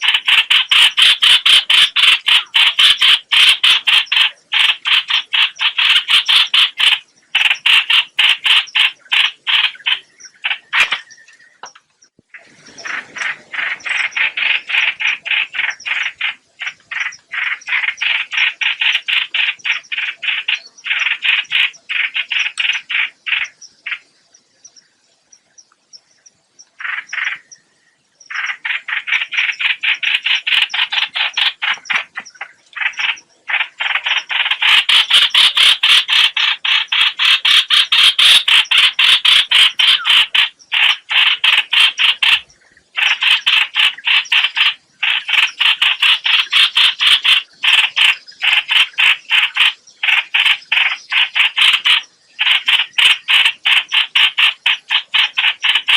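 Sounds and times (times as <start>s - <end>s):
bird calling with harsh rapid notes: 0.0s - 24.8s, 25.6s - 55.9s.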